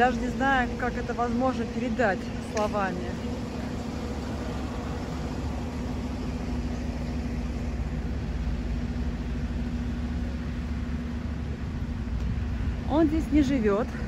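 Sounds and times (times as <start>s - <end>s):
constant low hum: 0.0s - 14.0s
low mechanical rumble: 0.0s - 14.0s.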